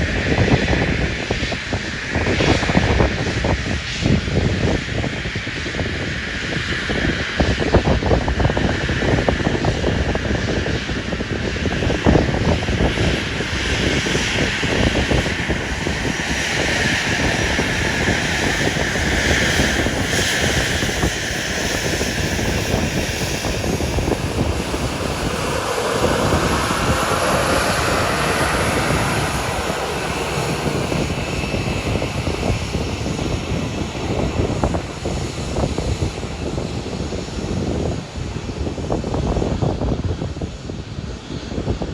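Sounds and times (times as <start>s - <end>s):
airliner engines running: 0.0s - 41.9s.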